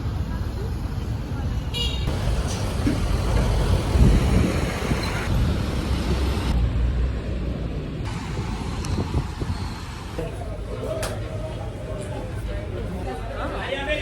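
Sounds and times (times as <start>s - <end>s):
road traffic rumble: 0.0s - 13.7s.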